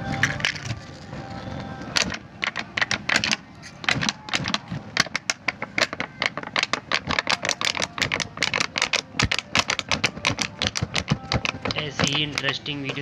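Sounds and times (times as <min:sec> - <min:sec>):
fire crackling with sharp pops: 0:01.7 - 0:13.0.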